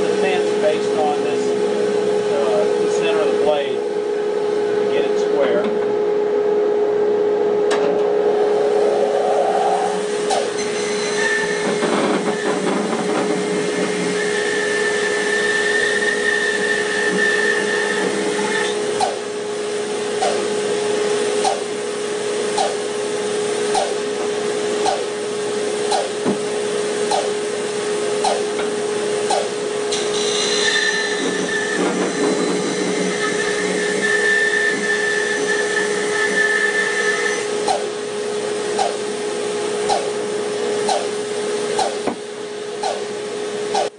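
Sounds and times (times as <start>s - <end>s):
bandsaw blade whine cutting wood: 0.0s - 5.6s, 8.3s - 43.9s
bandsaw humming: 8.3s - 43.9s.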